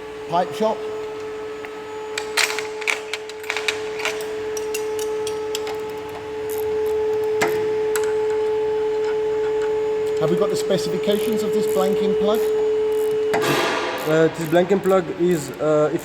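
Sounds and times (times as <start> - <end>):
steady hum: 0.0 - 16.0
spanners clicking on metal fittings: 2.2 - 8.4, 9.0 - 16.0.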